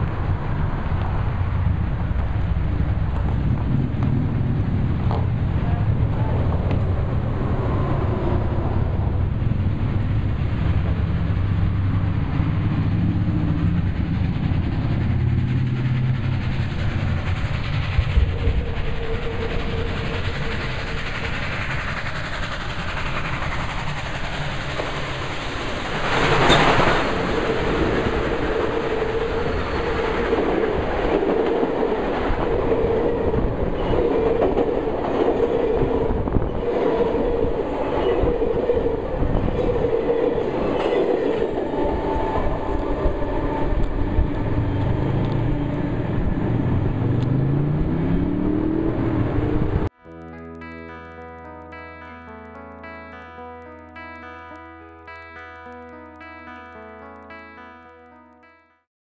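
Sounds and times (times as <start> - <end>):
steam locomotive passing: 0.0 - 49.9
passenger cars rumbling: 0.0 - 50.0
wheels clacking over rail joints: 0.1 - 49.8.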